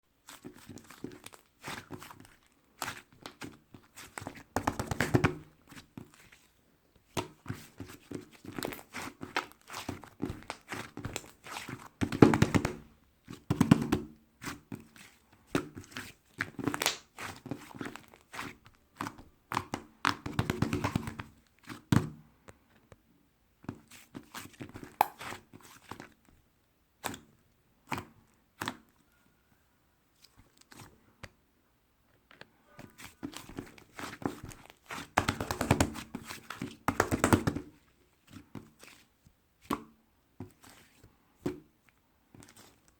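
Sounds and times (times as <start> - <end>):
hands squishing slime: 0.2 - 22.2, 23.7 - 26.3, 30.1 - 31.4, 32.8 - 42.9.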